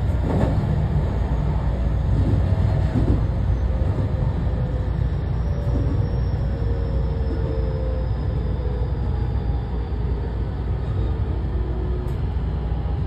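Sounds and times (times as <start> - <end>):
train wheels and motors rumbling: 0.0 - 13.0.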